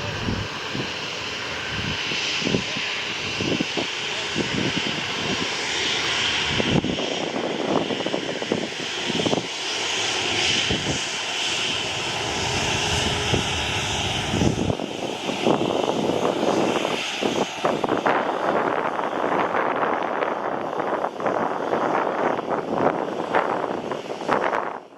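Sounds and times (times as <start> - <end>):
jet engine rushing hiss: 0.0 - 24.9
wind gusts buffeting microphone: 0.0 - 24.9.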